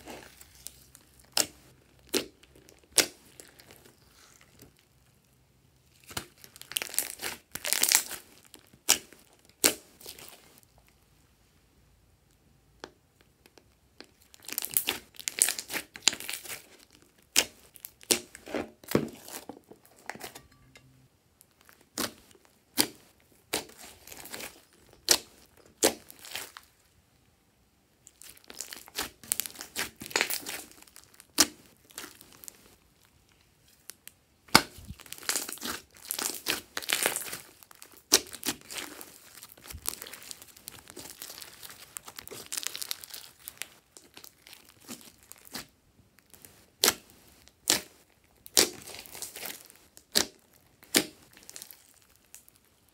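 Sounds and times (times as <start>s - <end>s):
slime crackling and popping: 0.0s - 4.8s, 5.9s - 10.6s, 13.2s - 20.5s, 21.4s - 26.7s, 28.0s - 33.1s, 33.8s - 52.9s.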